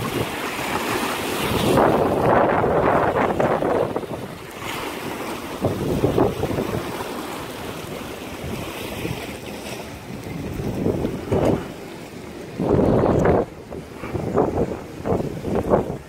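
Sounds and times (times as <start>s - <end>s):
wind gusting on microphone: 0.0s - 16.0s.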